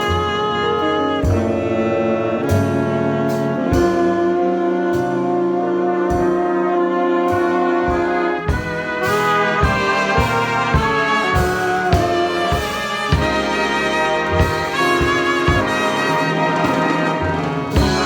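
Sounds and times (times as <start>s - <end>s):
regular low beats: 0.0s - 6.6s, 7.3s - 18.0s
brass section playing jazz ballad: 0.0s - 18.0s.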